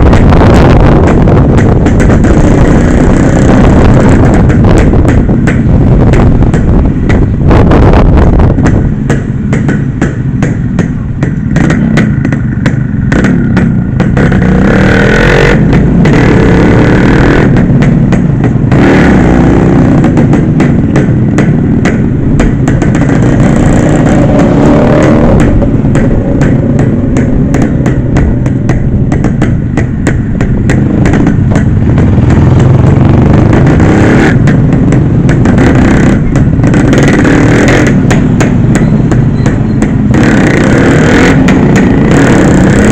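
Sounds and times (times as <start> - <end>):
vehicle engine and road noise: 0.0 - 42.9.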